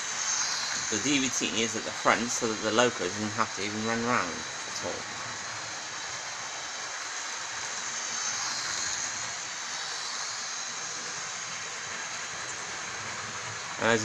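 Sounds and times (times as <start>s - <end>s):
model train whirring on track: 0.0s - 14.0s.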